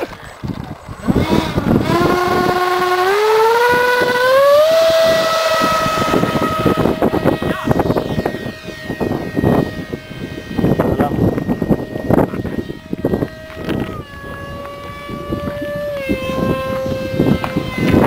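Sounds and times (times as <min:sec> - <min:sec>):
electric ducted fan whine: 0:00.0 - 0:18.0
rough rushing noise: 0:00.0 - 0:18.0.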